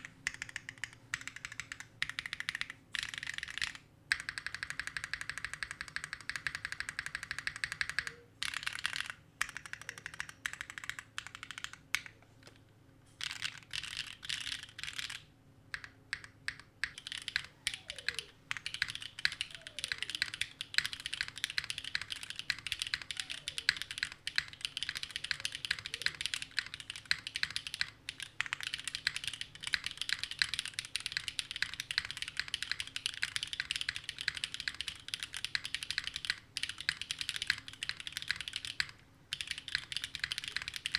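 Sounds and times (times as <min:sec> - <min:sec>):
mechanical keyboard typing: 0:00.0 - 0:12.6, 0:13.2 - 0:40.9.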